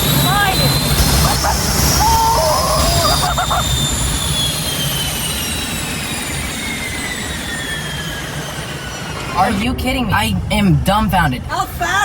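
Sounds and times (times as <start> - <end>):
jet engine spooling down: 0.0 - 11.8.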